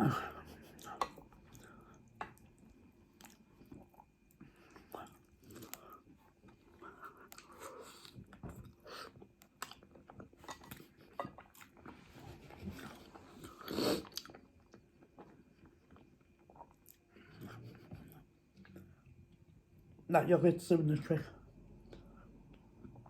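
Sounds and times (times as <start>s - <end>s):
person chewing food: 0.0s - 19.5s.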